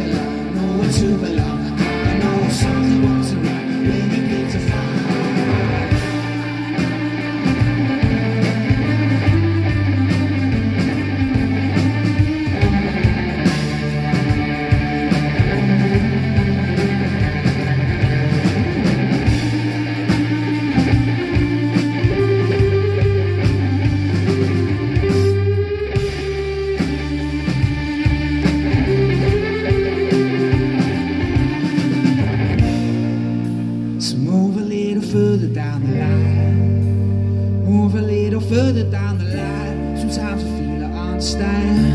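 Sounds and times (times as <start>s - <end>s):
drum kit: 0.0s - 41.9s
electric bass: 0.0s - 41.9s
electric guitar: 0.0s - 41.9s.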